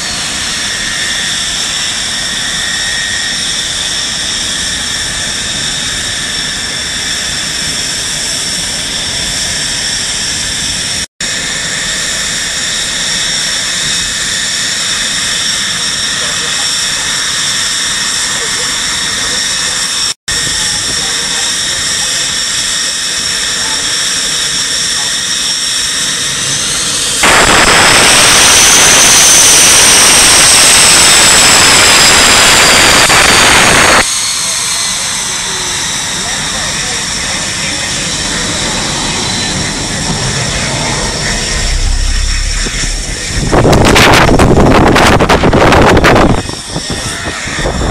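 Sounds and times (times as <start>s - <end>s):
high-pitched whining tones: 0.0s - 47.9s
jet engine rushing: 0.0s - 47.9s.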